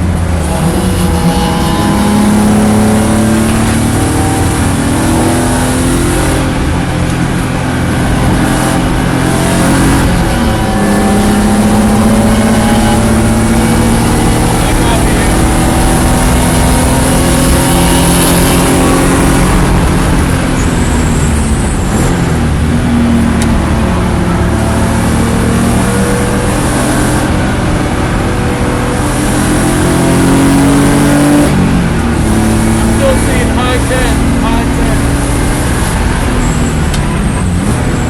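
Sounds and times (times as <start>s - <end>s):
race car engine running hard: 0.0s - 38.0s
wind and road noise: 0.0s - 38.0s.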